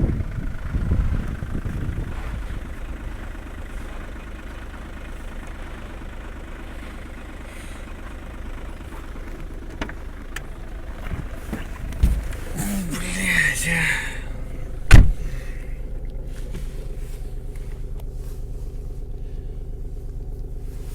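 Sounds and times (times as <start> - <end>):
diesel engine idling: 0.0 - 20.9.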